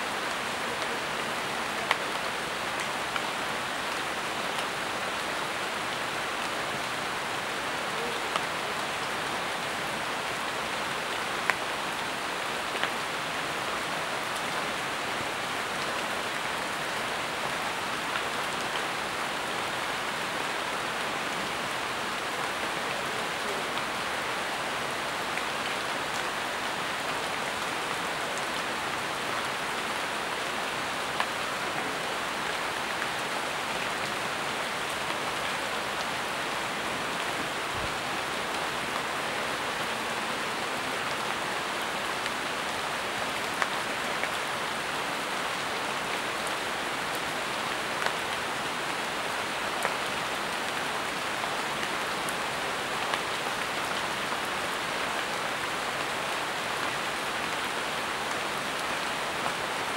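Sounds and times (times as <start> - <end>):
rain on foliage: 0.0 - 59.9.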